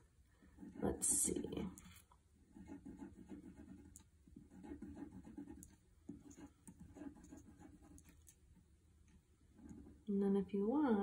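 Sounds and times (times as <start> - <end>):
crayon scratching on paper: 0.0 - 8.4, 9.5 - 10.1.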